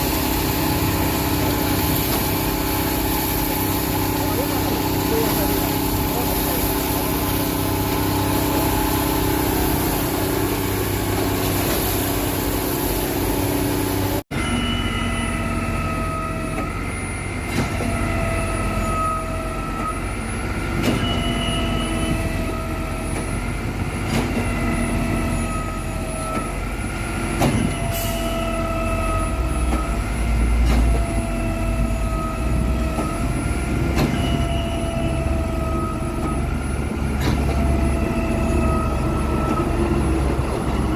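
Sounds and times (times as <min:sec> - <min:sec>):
concrete pump running: 0:00.0 - 0:40.9.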